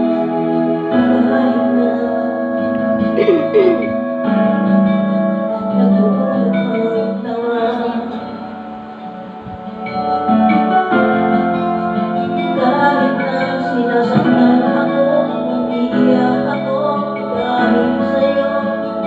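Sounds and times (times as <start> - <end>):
background music held chords: 0.0 - 19.0.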